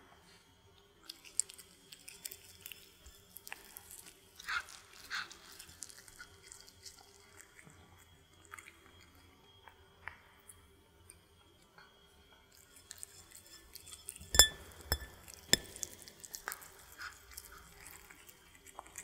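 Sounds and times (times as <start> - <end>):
cats chewing: 1.0 - 19.0.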